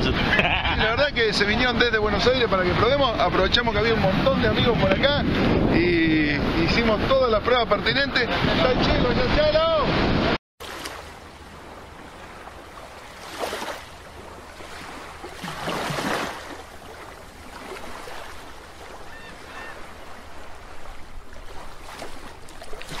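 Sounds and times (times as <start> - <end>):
rushing surf-like water: 0.0 - 0.5, 1.2 - 23.0.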